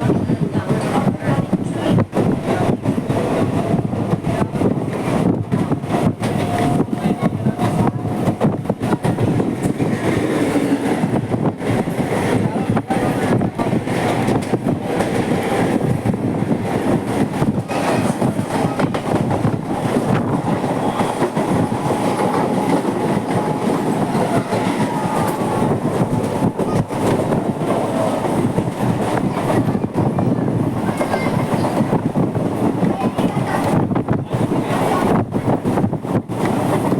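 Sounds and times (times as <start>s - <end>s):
electric train rumbling: 0.0s - 36.9s
wheels clacking over rail joints: 0.7s - 36.9s.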